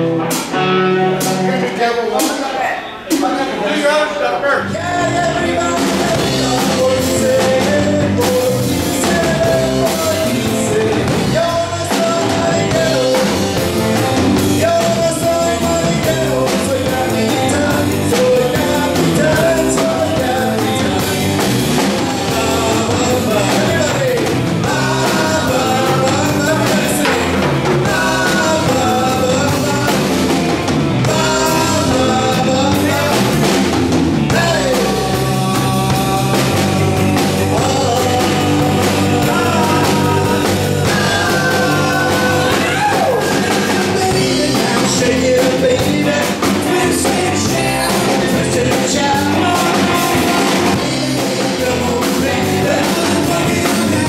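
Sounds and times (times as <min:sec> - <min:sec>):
electric guitar: 0:00.0 - 0:01.9, 0:04.6 - 0:54.0
drum kit: 0:00.0 - 0:03.6, 0:04.6 - 0:54.0
man singing into a microphone: 0:04.6 - 0:54.0.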